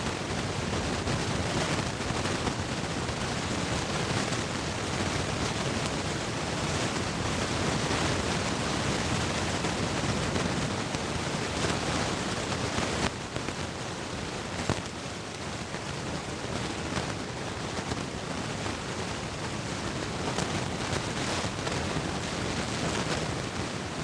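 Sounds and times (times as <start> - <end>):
steady rushing hiss: 0.0 - 24.0.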